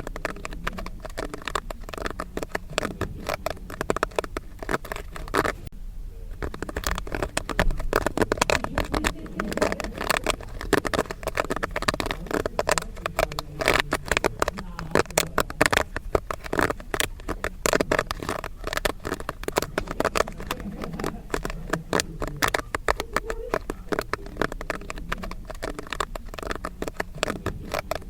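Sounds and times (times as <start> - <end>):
popcorn popping: 0.0 - 28.0.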